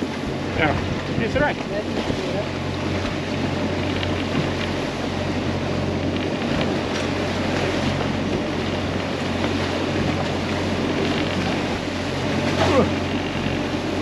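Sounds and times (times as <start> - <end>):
steady low hum: 0.0 - 14.0
water rushing past boat: 0.0 - 14.0
wind buffeting microphone: 0.0 - 14.0.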